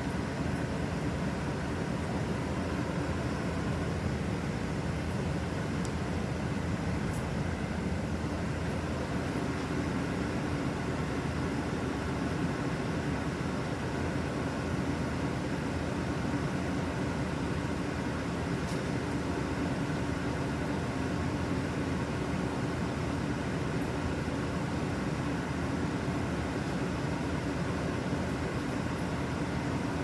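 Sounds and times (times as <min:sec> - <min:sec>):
bus engine droning: 0:00.0 - 0:30.0.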